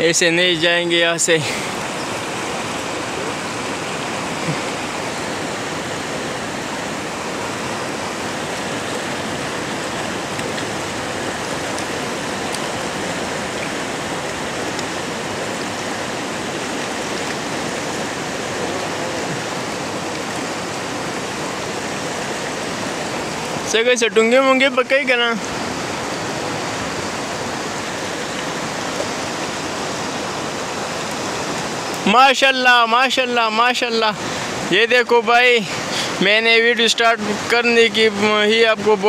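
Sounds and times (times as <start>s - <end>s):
river rushing over stones: 0.0s - 39.0s.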